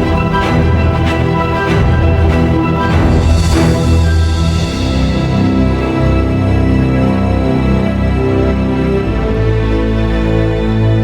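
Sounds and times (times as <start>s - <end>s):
cinematic music with bass and beat: 0.0s - 11.0s.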